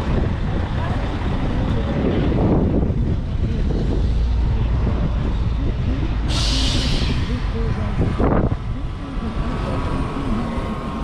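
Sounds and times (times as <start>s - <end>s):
faint crowd voices: 0.0s - 11.0s
wind buffeting microphone: 0.0s - 11.0s.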